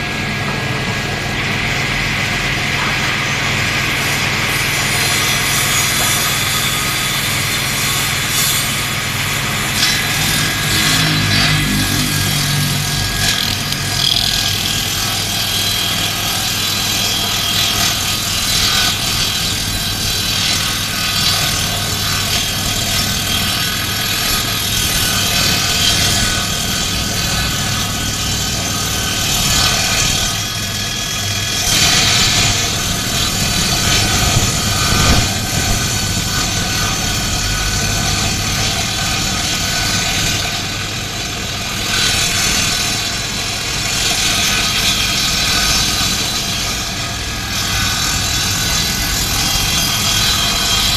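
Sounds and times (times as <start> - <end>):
power tool cutting wood: 2.0 - 50.9.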